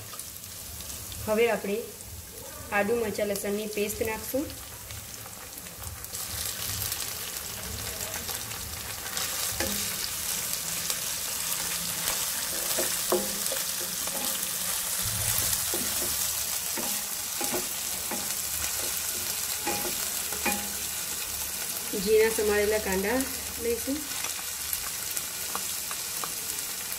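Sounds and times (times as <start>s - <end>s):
paste sizzling in hot oil: 3.7s - 26.9s.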